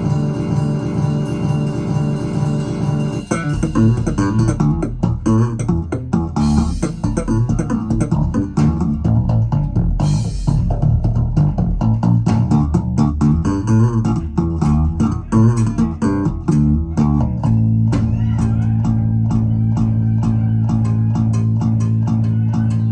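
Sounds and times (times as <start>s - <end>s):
music with plucked bass and guitar: 0.0s - 22.9s
ticking beat: 0.0s - 22.9s.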